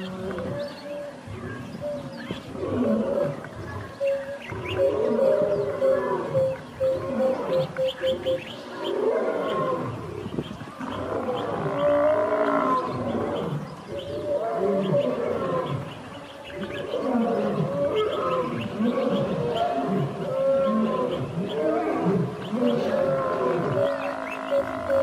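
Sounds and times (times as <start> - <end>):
lions growling and snarling: 0.0 - 7.7, 8.8 - 25.0.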